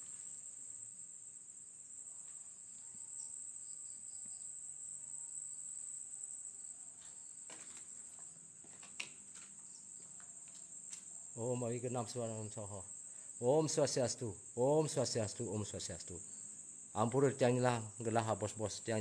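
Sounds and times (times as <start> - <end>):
night insects chirring: 0.0 - 19.0.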